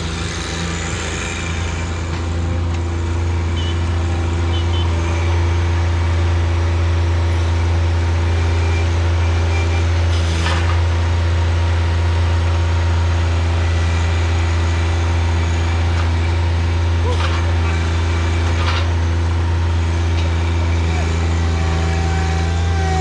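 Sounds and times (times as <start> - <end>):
engine humming steadily: 0.0 - 23.0.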